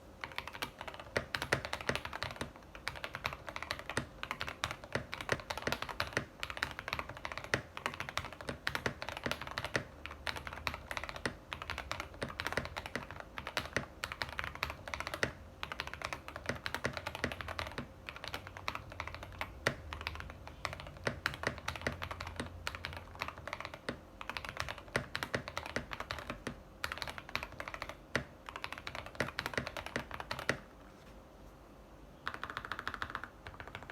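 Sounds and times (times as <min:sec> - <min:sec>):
fast typing on mechanical keyboard: 0:00.2 - 0:30.7, 0:32.2 - 0:33.9.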